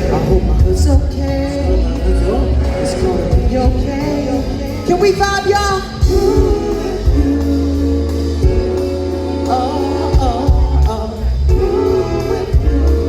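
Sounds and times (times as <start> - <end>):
bass line: 0.0 - 13.0
drums: 0.0 - 13.0
live band playing slow groove: 0.0 - 13.0
wordless singing: 0.0 - 13.0.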